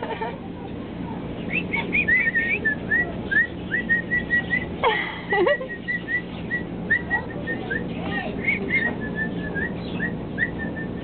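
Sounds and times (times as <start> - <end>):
pet birds chirping: 0.6 - 11.0.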